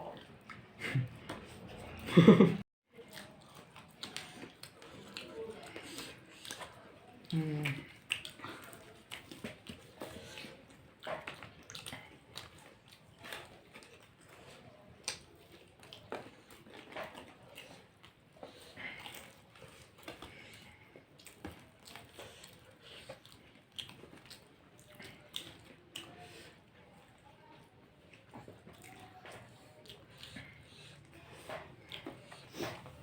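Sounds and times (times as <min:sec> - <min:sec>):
people chewing crunchy snacks: 0:00.0 - 0:33.0.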